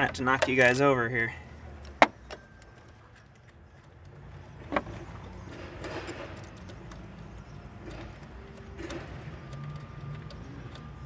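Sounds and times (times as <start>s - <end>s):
faint ticking and scraping of bolt: 0.0s - 1.0s, 1.8s - 11.0s.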